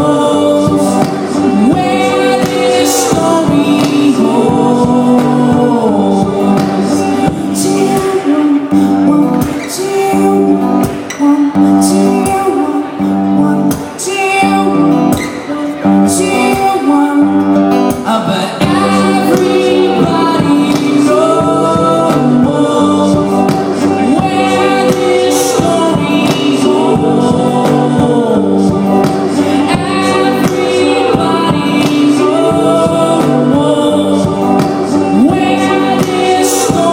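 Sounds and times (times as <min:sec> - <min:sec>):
band playing live: 0:00.0 - 0:36.9
person singing: 0:00.0 - 0:36.9.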